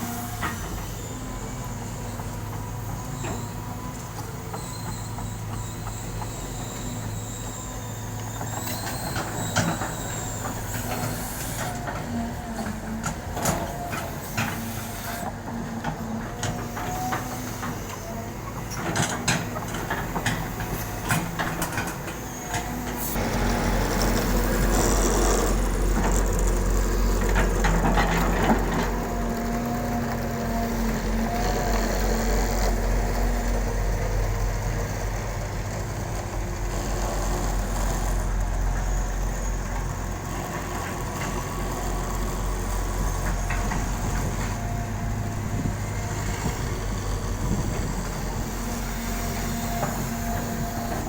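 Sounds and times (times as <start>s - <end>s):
engine whine: 0.0s - 51.0s
excavator diesel engine running: 0.0s - 51.0s.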